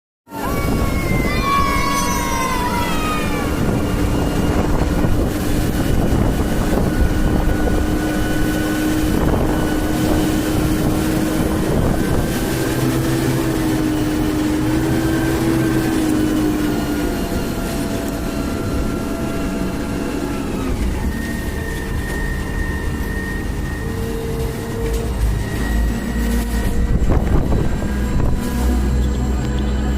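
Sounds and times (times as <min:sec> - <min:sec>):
diesel engine running: 0:00.3 - 0:29.9
high-pitched whine: 0:00.3 - 0:29.9
steady hum: 0:00.4 - 0:29.9.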